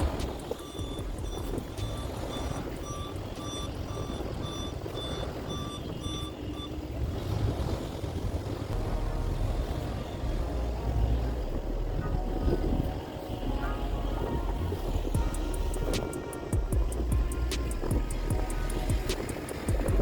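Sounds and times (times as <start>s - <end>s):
vehicle back-up alarm beeping: 0.0s - 8.0s, 8.8s - 20.0s
wind buffeting microphone: 0.0s - 20.0s.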